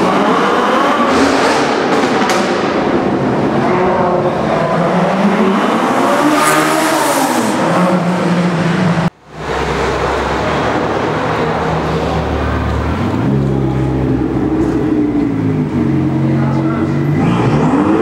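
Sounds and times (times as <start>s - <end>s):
car engines revving in tunnel: 0.0s - 18.0s.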